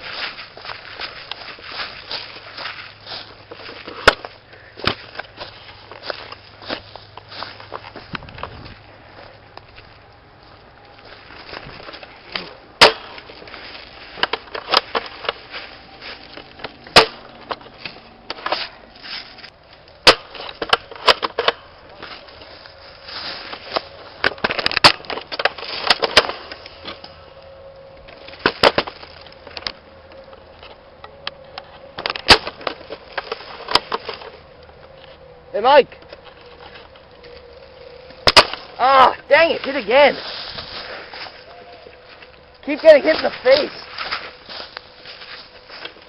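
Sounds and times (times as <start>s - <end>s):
rustling: 0.0s - 46.0s.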